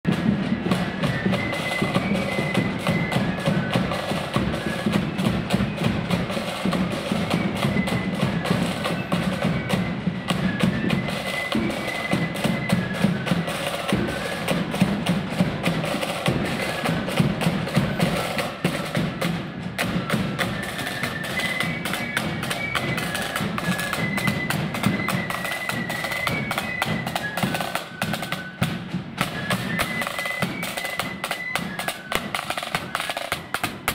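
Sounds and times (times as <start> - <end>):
snare drumming: 0.0 - 33.9
flutes playing melody: 0.1 - 33.9.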